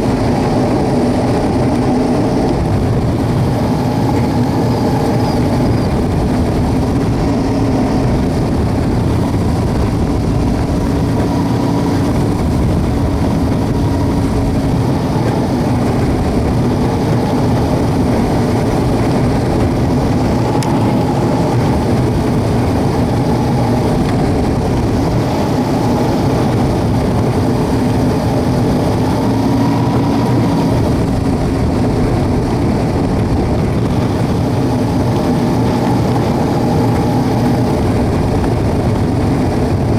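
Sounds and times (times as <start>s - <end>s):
aircraft piston engine and propeller: 0.0s - 39.9s.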